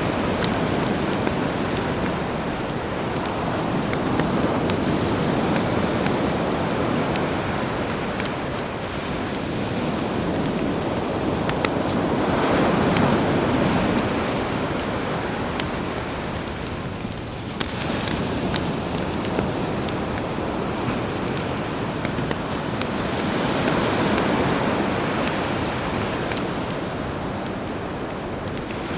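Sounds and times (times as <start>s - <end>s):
campfire crackling: 0.0s - 28.9s
sea waves washing ashore: 0.0s - 28.9s.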